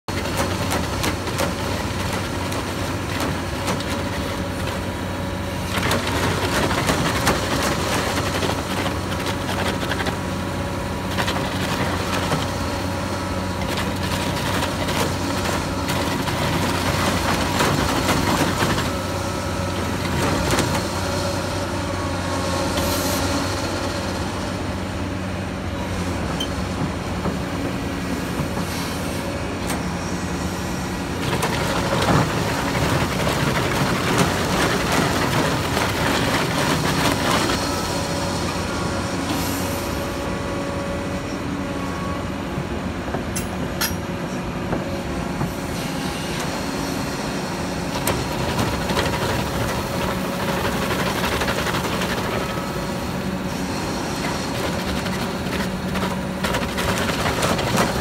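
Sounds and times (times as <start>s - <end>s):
excavator hydraulic drone: 0.1s - 58.0s.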